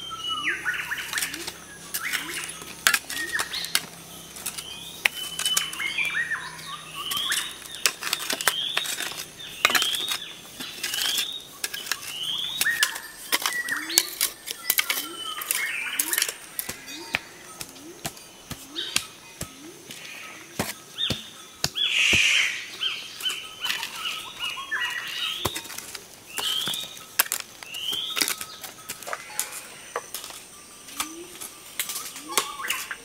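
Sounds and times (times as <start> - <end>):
bird chirping: 0.0 - 33.0
hoe chopping stony soil: 0.7 - 33.0.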